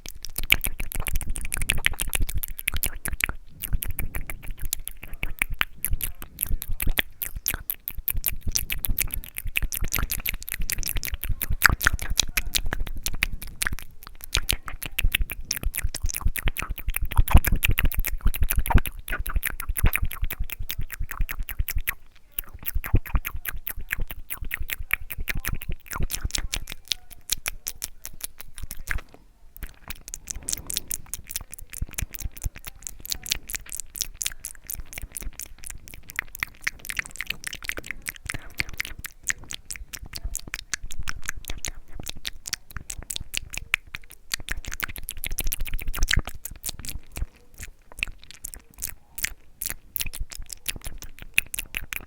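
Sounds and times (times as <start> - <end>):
wet mouth clicks and lip smacks: 0.0 - 52.0.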